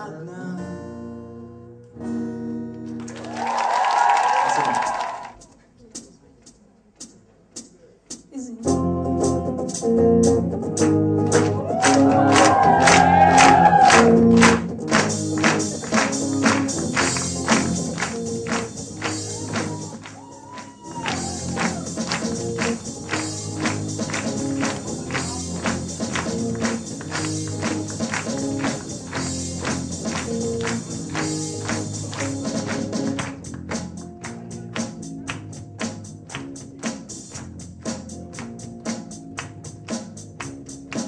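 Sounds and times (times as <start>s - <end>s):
instrumental music with percussion: 5.3s - 41.0s.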